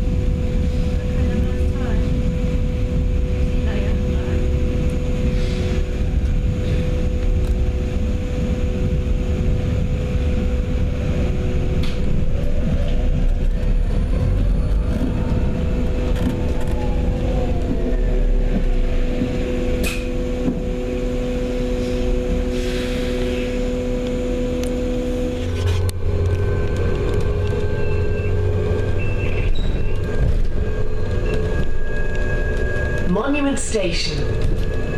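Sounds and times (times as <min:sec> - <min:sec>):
rising and falling whine: 0:00.0 - 0:34.9
vehicle rumble with humming tones: 0:00.0 - 0:34.9.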